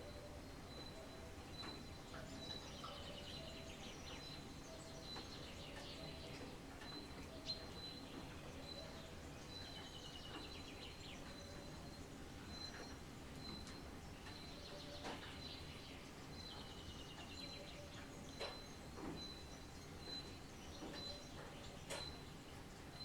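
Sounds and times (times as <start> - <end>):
wild birds singing: 0.0 - 23.0.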